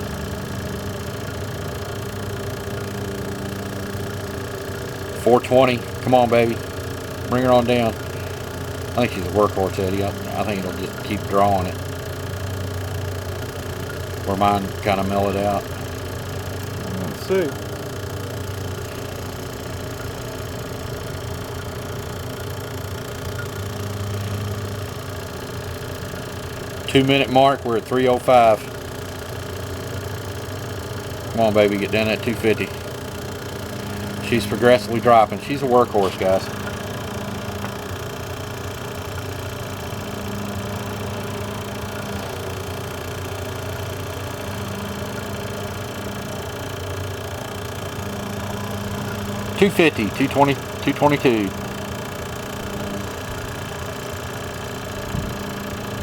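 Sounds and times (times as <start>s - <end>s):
vacuum pump humming: 0.0s - 56.0s.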